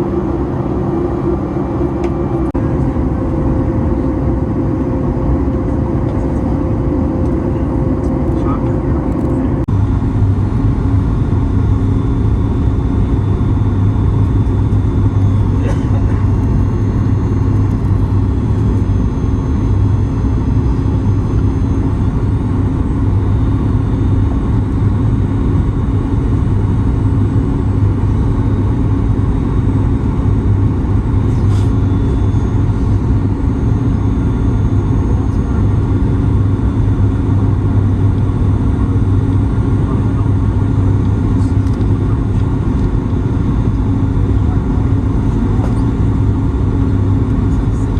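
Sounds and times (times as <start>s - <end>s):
aircraft cabin engine drone: 0.0s - 47.9s.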